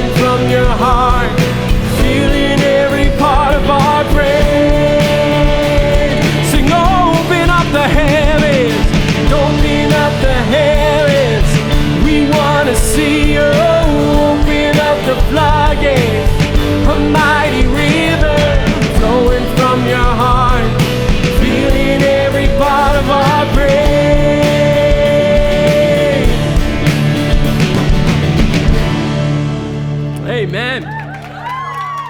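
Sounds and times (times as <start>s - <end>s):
person singing with vibrato: 0.0s - 27.5s
drums: 0.0s - 32.0s
rock band playing: 0.0s - 32.0s.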